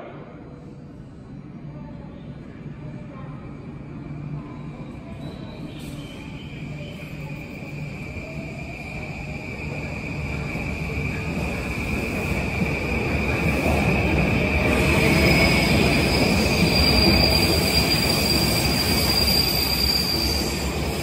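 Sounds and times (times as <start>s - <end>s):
train rolling noise: 2.3s - 21.0s.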